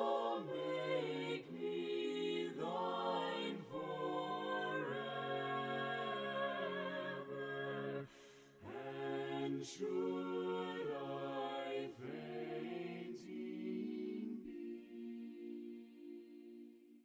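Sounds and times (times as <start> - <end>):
voices singing a hymn in harmony: 0.0 - 16.8.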